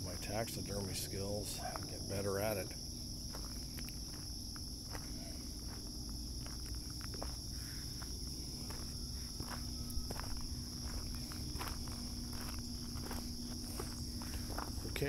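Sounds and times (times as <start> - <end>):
insects singing: 0.0 - 15.0
soft footsteps: 1.6 - 15.0.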